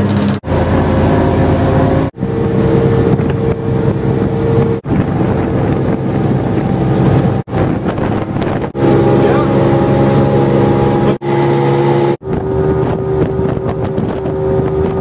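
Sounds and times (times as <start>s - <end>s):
wind buffeting microphone: 0.0s - 11.2s, 12.2s - 15.0s
motorboat engine humming: 0.0s - 15.0s.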